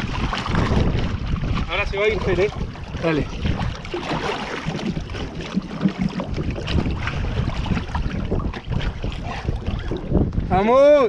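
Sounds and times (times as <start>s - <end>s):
water splashing against boat: 0.0s - 11.0s
wind buffeting microphone: 0.0s - 11.0s.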